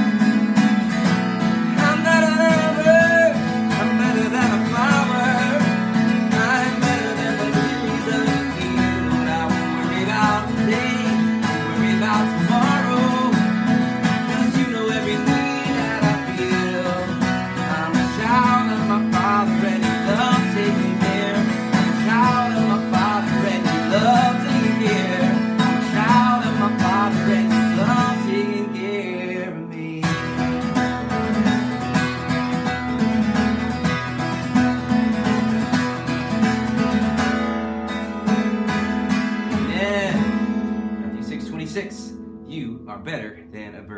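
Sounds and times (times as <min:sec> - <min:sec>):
acoustic guitar playing: 0:00.0 - 0:43.9.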